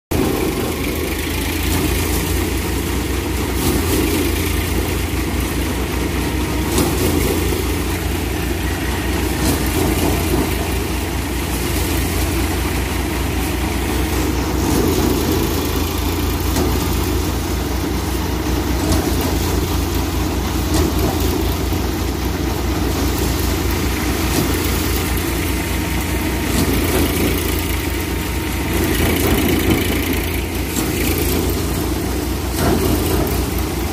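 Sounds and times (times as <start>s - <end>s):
threshing drum whirring: 0.1s - 33.9s
tractor engine running: 0.1s - 33.9s.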